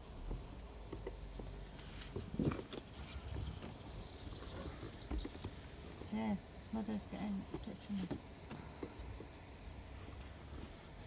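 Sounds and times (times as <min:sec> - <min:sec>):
insects chirring: 0:00.0 - 0:10.9.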